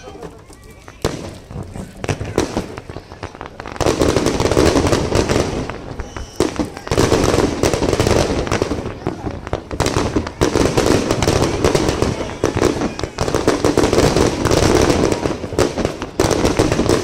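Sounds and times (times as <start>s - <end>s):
fireworks bangs and crackle: 0.0s - 17.0s.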